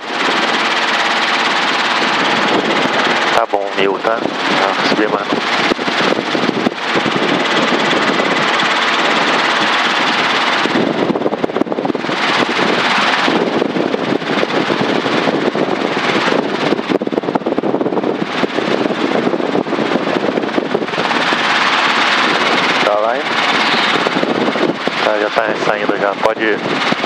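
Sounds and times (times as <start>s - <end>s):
helicopter engine and rotor: 0.0s - 27.0s.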